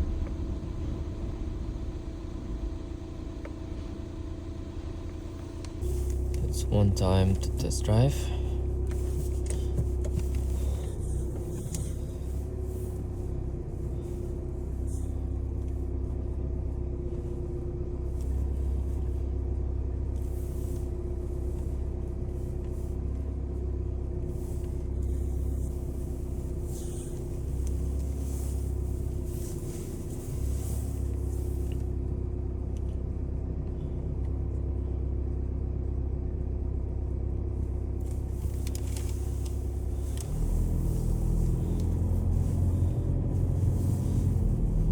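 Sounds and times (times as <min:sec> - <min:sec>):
car engine and road rumble: 0:00.0 - 0:44.9
constant cabin hum: 0:00.0 - 0:44.9.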